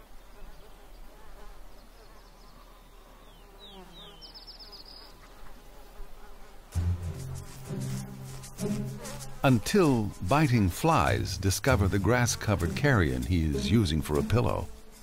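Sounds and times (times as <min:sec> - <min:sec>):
flies buzzing: 0:00.0 - 0:15.0.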